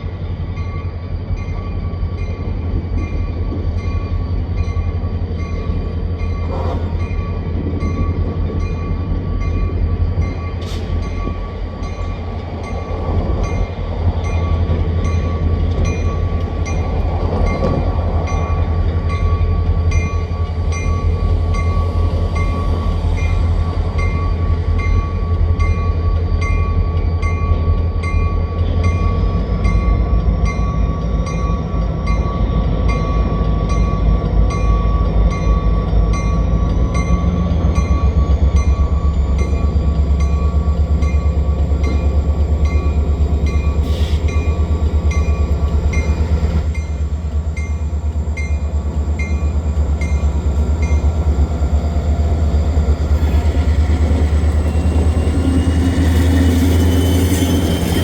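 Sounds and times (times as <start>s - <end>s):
freight train rumbling by: 0.0s - 58.0s.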